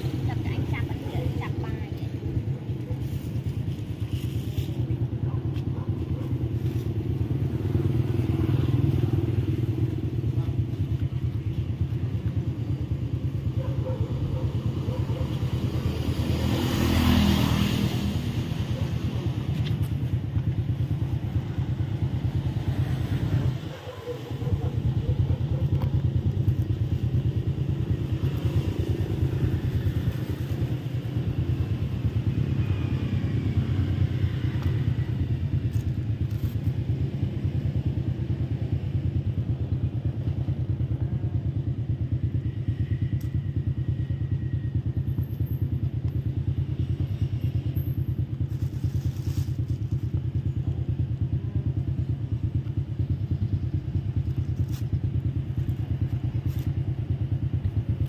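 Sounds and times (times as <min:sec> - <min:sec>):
vehicle engine rumble: 0:00.0 - 0:58.0.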